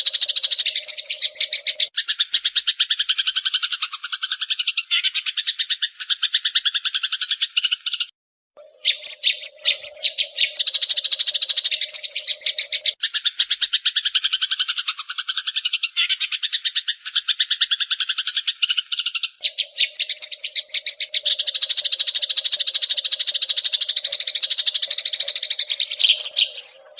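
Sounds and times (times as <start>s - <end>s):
songbird rattling trills: 0.0s - 26.9s.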